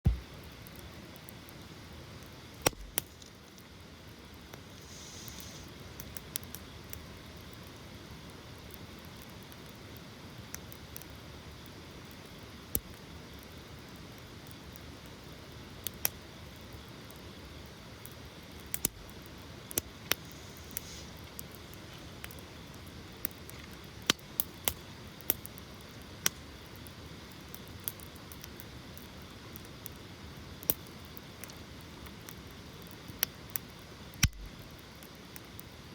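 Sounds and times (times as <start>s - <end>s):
burning wood crackling and popping: 0.0s - 35.9s
soft fire hiss: 0.1s - 35.9s.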